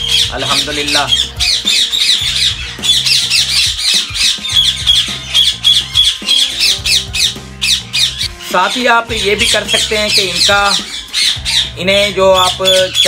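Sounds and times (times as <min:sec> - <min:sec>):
parakeets squawking: 0:00.0 - 0:13.0.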